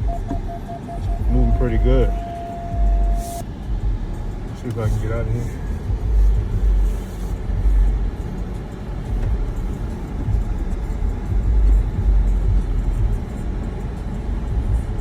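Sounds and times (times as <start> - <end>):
vehicle rumbling through deep snow: 0.0 - 15.0.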